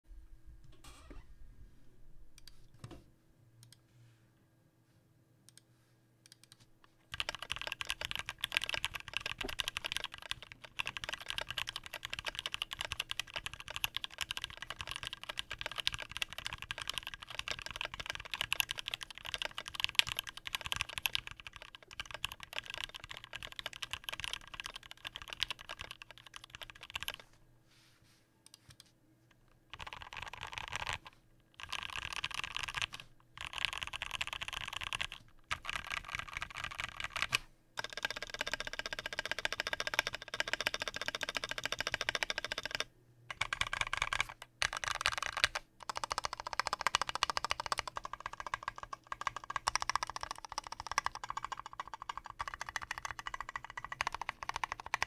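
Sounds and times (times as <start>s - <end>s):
mechanical keyboard typing: 6.3s - 27.2s, 29.7s - 55.0s.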